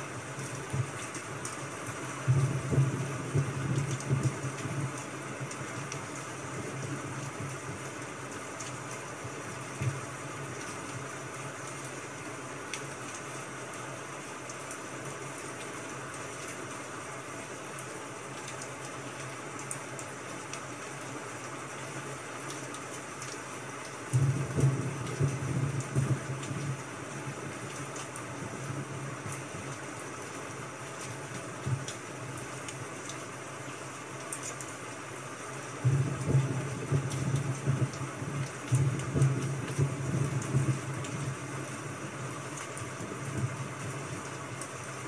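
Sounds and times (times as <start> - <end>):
steady rain: 0.0 - 45.0.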